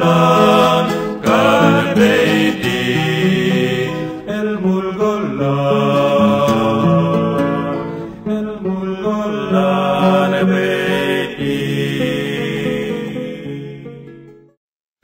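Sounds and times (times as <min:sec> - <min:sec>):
slow music of long held notes: 0:00.0 - 0:14.5.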